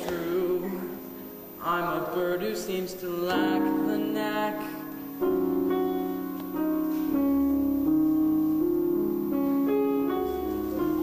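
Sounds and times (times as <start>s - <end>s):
gentle piano ballad chords: 0.0s - 11.0s.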